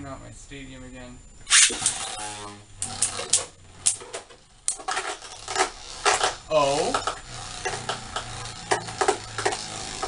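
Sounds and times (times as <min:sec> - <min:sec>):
spinning tops clacking and rattling: 0:01.5 - 0:10.0.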